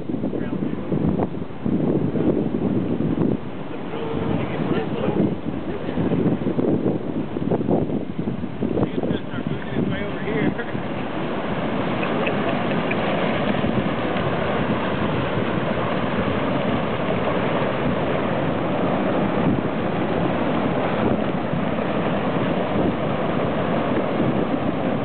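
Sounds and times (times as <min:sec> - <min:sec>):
wind buffeting microphone: 0:00.0 - 0:25.0
floodwater rushing: 0:02.9 - 0:25.0.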